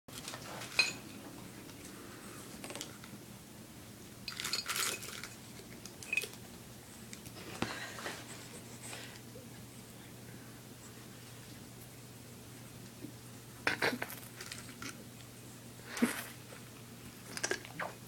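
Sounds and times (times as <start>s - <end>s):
faint hum: 0.1s - 18.0s.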